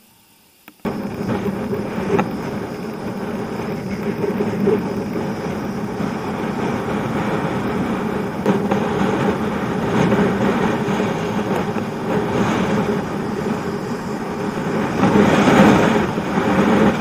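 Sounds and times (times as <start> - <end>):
bicycle tyres rolling on asphalt: 0.8 - 17.0
wind rushing over microphone: 0.8 - 17.0.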